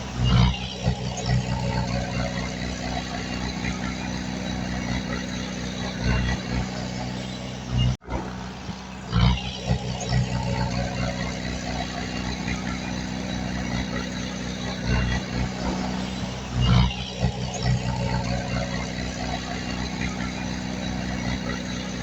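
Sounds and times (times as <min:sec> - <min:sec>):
heavy diesel machinery running: 0:00.0 - 0:22.0.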